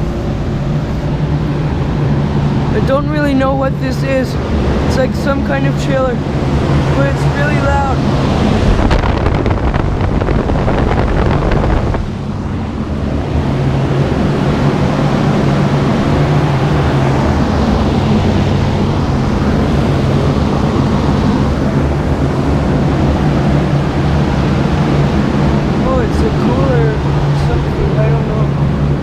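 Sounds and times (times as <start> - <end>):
air conditioning fans rushing: 0.0 - 29.0
low machine hum: 0.0 - 29.0.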